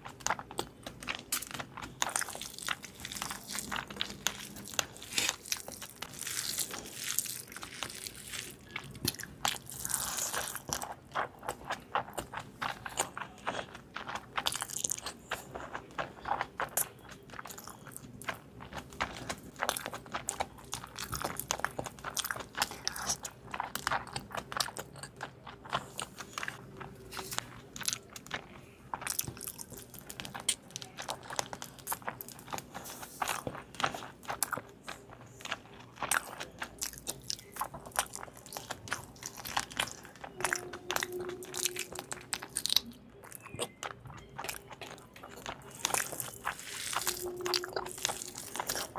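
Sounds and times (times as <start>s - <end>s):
chewing crunchy fried chicken: 0.0s - 48.9s.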